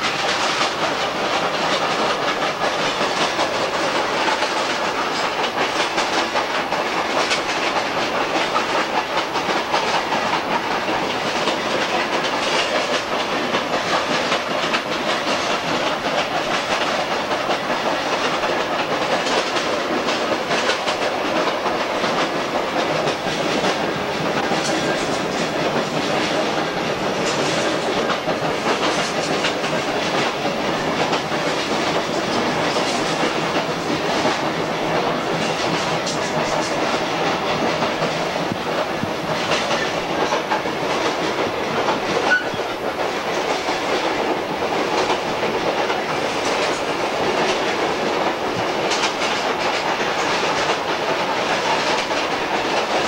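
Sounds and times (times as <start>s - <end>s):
train rumbling: 0.0s - 53.0s
wheels clicking over rail joints: 0.0s - 53.0s.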